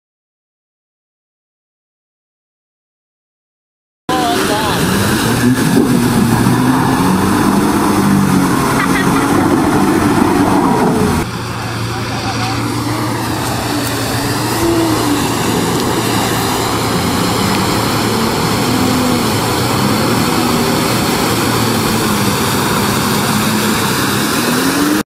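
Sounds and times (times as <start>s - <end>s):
engine revving: 4.1s - 25.0s
mud and water splashing: 4.1s - 25.0s.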